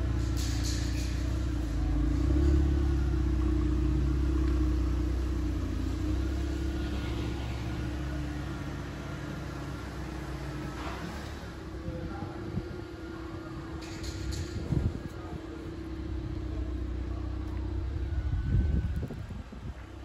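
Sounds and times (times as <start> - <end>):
car engine humming at low revs: 0.0 - 20.0.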